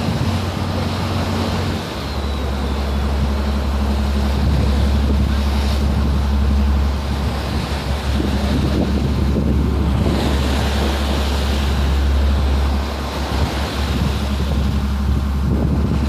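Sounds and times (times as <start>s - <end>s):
boat engine running: 0.0s - 16.0s
sea washing past hull: 0.0s - 16.0s
wind on microphone: 0.0s - 16.0s.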